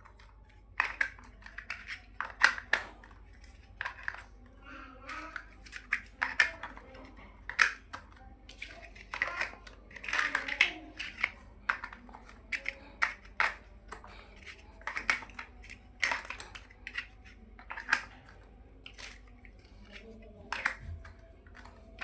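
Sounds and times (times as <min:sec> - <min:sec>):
plastic blocks clicking together: 0:00.0 - 0:22.0.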